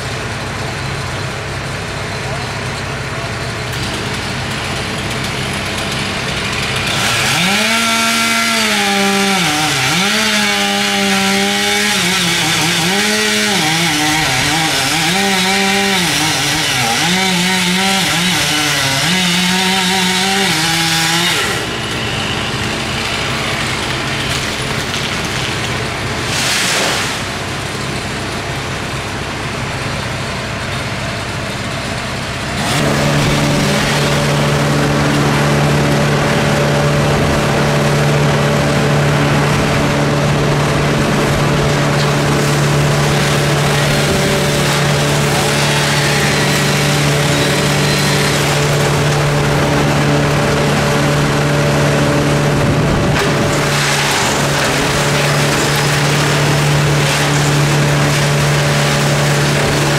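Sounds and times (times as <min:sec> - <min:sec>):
engine drone: 0:00.0 - 0:59.9
chainsaw cutting wood: 0:03.7 - 0:29.1, 0:32.6 - 0:59.9.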